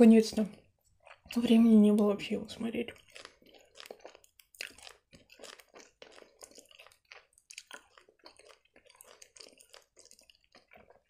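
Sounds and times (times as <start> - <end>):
chewing gummy candy: 0.2 - 11.0.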